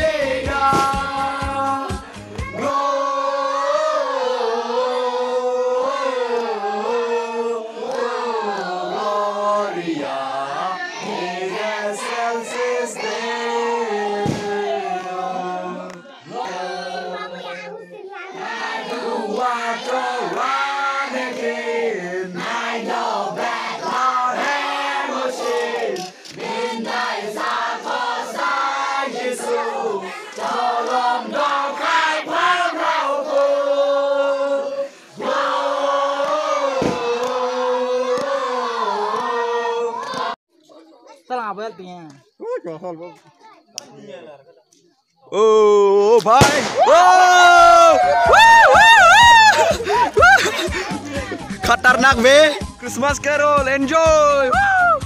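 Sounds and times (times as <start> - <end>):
group singing carol: 0.0 - 40.4, 47.9 - 51.6.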